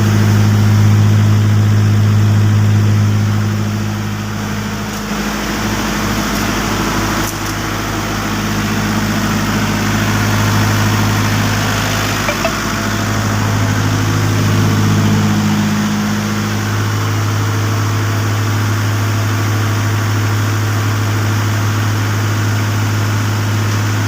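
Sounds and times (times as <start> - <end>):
diesel generator running: 0.0 - 24.0.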